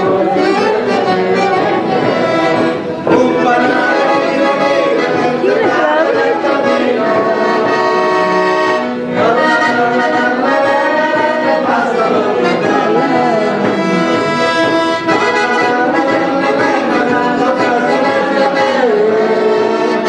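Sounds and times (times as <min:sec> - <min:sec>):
piano accordion playing a tune: 0:00.0 - 0:20.0.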